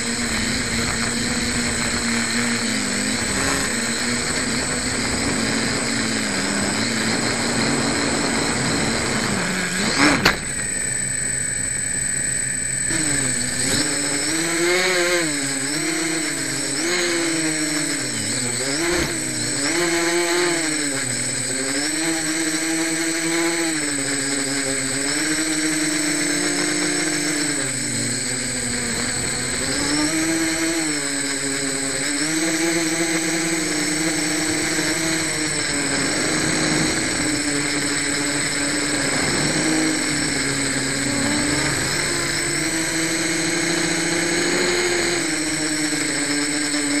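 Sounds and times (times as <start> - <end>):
quadcopter motors whining: 0.0 - 47.0.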